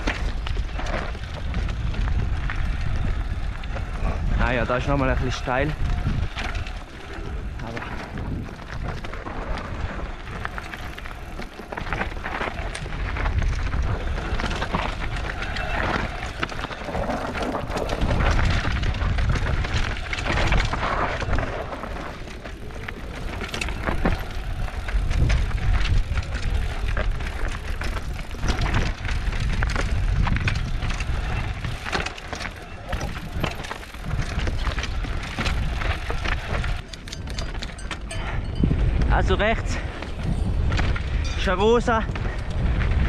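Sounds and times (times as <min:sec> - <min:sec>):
bike rattles and clicks: 0:00.0 - 0:43.0
bike tyres rolling on trail: 0:00.0 - 0:43.0
wind rumbling on microphone: 0:00.0 - 0:43.0.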